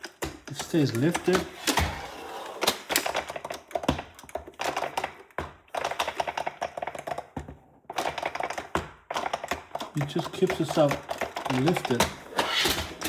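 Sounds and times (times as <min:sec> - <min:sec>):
plastic clicks and knocks: 0:00.0 - 0:13.0.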